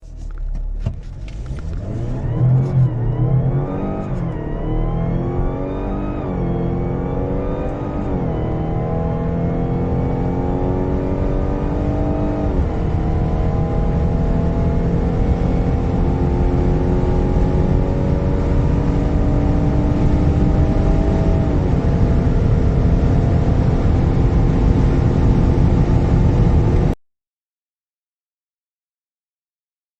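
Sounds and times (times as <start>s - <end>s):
car engine accelerating through gears: 0.0s - 27.0s
road and wind noise: 0.0s - 27.0s.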